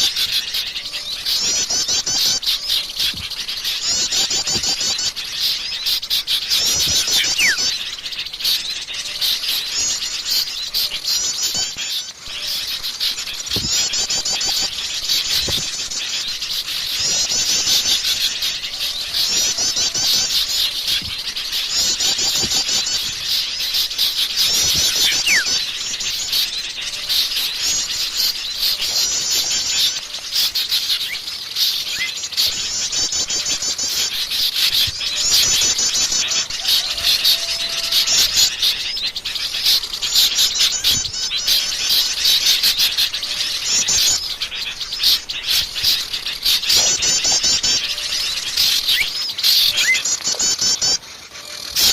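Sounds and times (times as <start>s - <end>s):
songbirds chattering and trilling: 0.0s - 51.9s.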